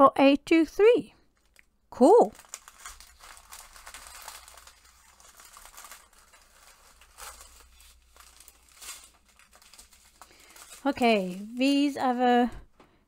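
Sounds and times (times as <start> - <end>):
plastic bags crinkling: 1.3 - 12.4.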